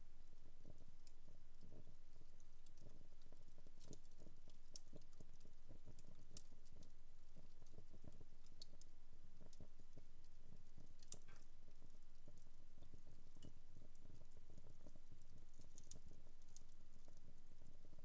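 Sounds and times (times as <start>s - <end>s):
wood fire crackling: 2.6s - 17.2s.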